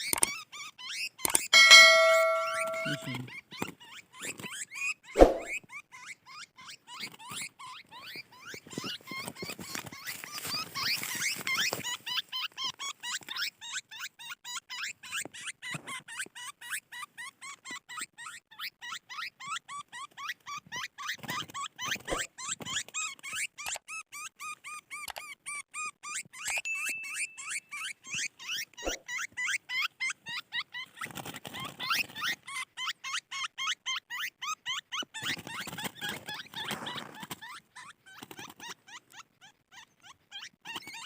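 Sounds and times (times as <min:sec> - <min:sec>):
small birds squeaky chirps: 0:05.8 - 0:41.0.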